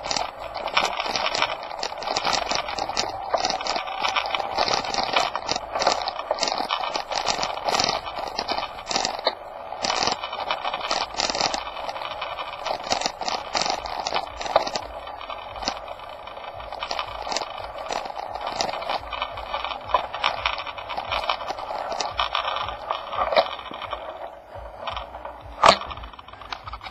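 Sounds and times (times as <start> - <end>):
camera rattling and scraping: 0.0 - 26.9.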